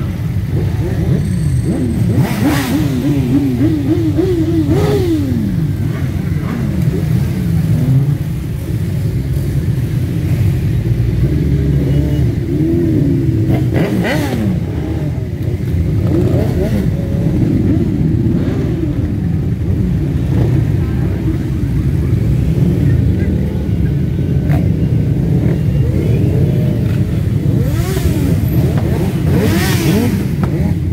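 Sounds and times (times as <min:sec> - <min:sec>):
motorcycle engine revving: 0:00.0 - 0:30.9
motorcycles idling: 0:00.0 - 0:30.9.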